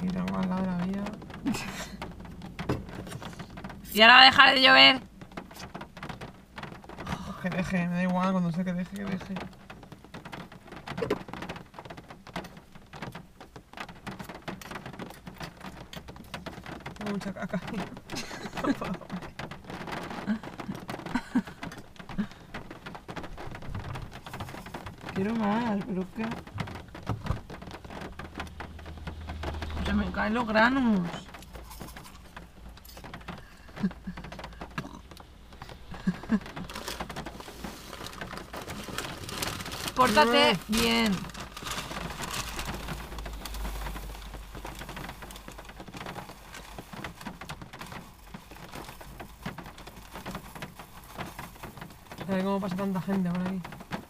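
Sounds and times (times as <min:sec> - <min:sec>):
rain on a car roof: 0:00.0 - 0:54.0.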